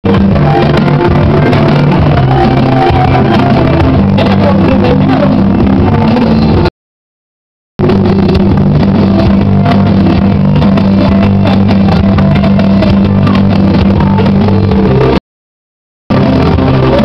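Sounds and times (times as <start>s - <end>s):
loud music with bass and guitar: 0.0s - 6.7s, 7.8s - 15.2s, 16.1s - 17.0s.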